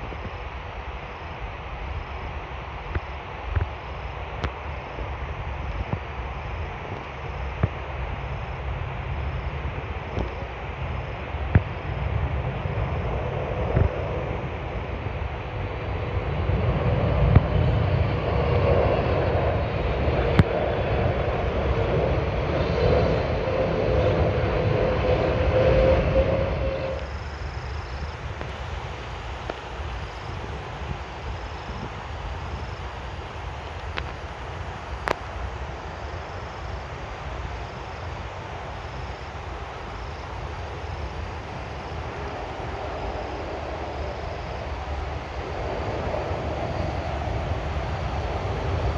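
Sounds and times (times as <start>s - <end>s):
jet aircraft rumbling: 0.0s - 48.9s
wind on microphone: 0.0s - 48.9s.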